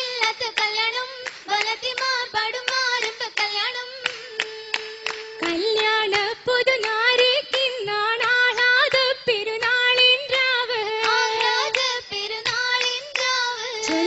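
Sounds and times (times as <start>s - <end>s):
group singing: 0.0s - 14.0s
rhythmic hand claps: 0.0s - 14.0s.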